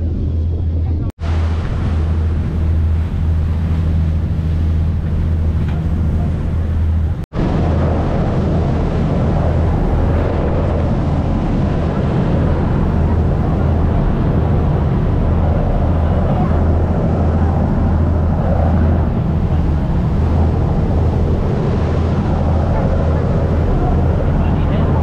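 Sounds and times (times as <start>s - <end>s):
speedboat engine humming: 0.0s - 25.0s
wind on microphone: 0.0s - 25.0s.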